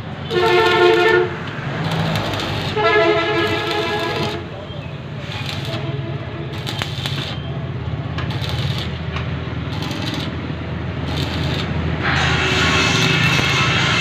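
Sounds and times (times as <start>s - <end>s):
steady rushing noise: 0.0s - 14.0s
welding arc crackling: 0.0s - 14.0s.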